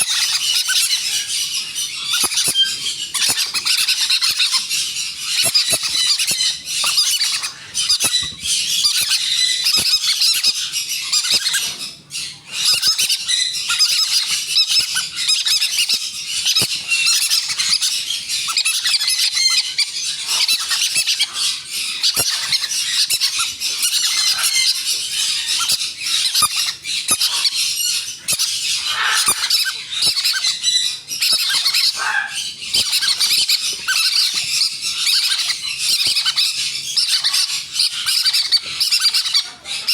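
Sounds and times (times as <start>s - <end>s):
parrot chicks squawking: 0.0s - 39.9s.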